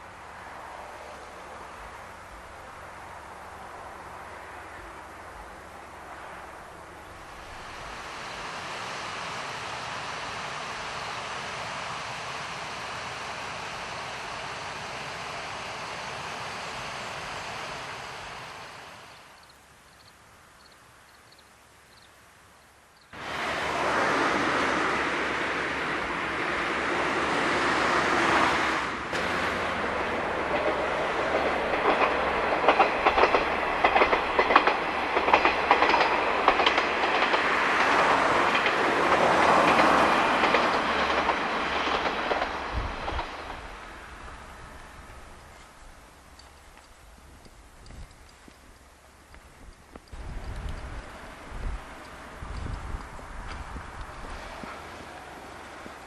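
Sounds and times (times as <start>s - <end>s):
diesel railcar passing: 0.0s - 20.7s, 23.1s - 56.0s
steady outdoor hiss: 0.0s - 56.0s
train wheels clicking over rail joints: 6.5s - 19.6s, 23.6s - 56.0s.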